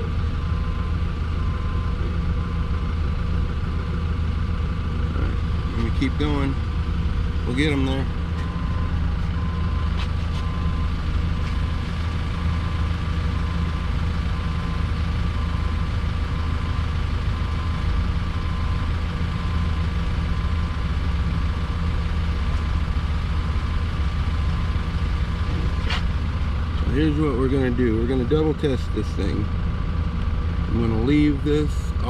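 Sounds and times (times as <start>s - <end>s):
forklift diesel engine idling: 0.0s - 32.0s.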